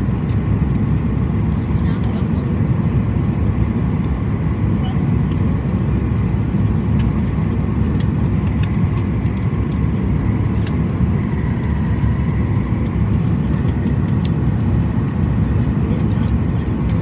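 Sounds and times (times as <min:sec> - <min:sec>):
jet engines and airflow rushing: 0:00.0 - 0:17.0.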